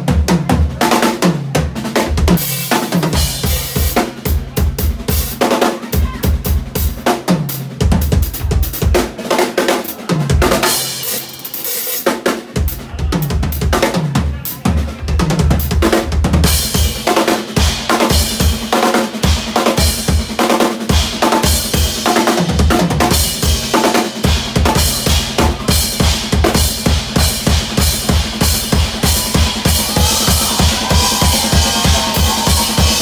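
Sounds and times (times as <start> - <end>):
drum kit played hard: 0.0 - 33.0.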